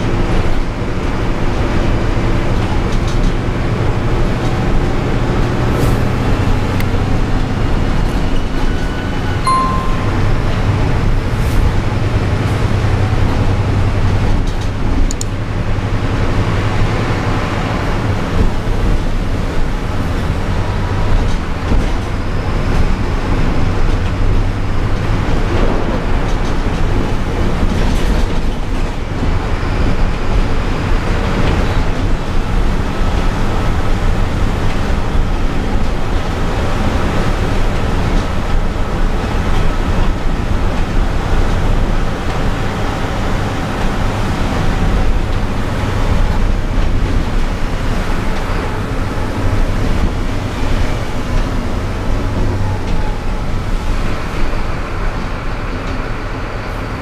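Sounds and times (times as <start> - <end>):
bus engine drone: 0.0 - 57.0
tyre and road noise: 0.0 - 57.0.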